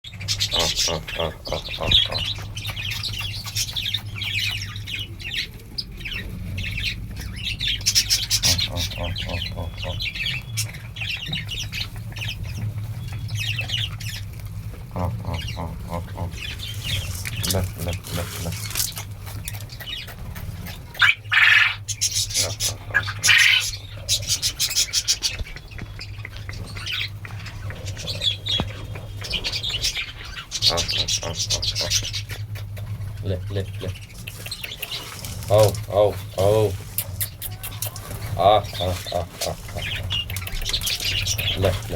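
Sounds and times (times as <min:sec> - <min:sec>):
small birds chirping: 0:00.0 - 0:41.9
steady low hum: 0:00.1 - 0:41.9.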